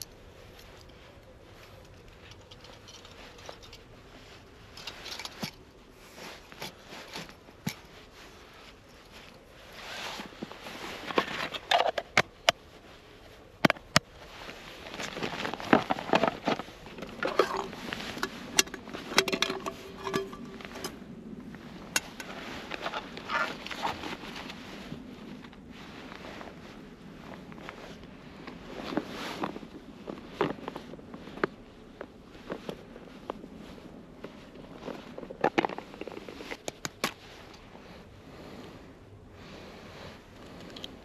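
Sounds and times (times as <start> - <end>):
rustling and handling noise: 0.0 - 41.0.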